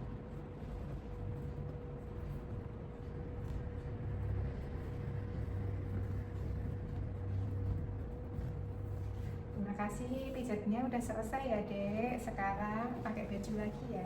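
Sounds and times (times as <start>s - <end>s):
faint constant whine: 0.0s - 14.0s
low mechanical hum: 0.0s - 14.0s.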